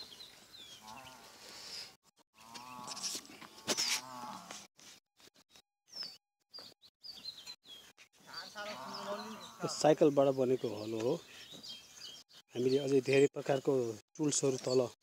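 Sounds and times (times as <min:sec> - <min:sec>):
small birds chirping: 0:00.0 - 0:04.4, 0:05.3 - 0:15.0.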